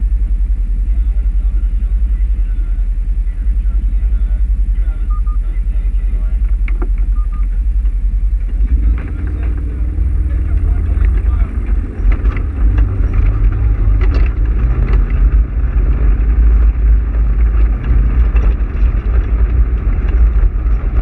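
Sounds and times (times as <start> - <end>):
off-road vehicle engine rumbling: 0.0 - 21.0.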